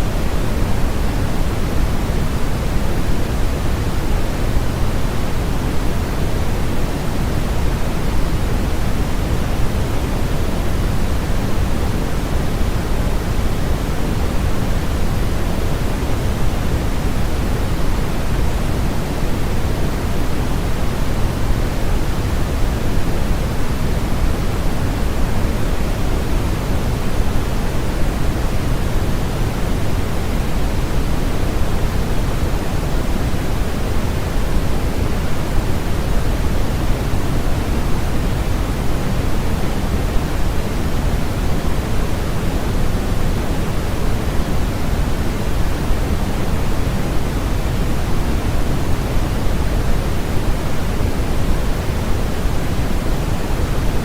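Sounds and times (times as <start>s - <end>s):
steady static noise: 0.0s - 54.0s.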